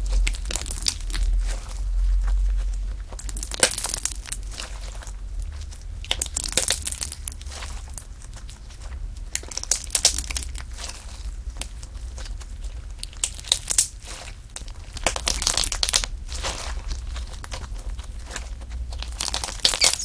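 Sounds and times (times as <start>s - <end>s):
slime crackling and crunching: 0.0s - 20.0s.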